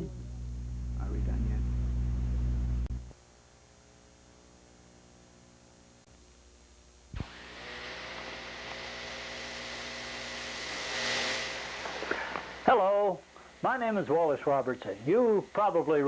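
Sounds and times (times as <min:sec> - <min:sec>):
faint mains hum: 0:00.0 - 0:07.4, 0:08.0 - 0:16.0
steady hiss: 0:00.0 - 0:16.0
thin high whine: 0:00.0 - 0:16.0.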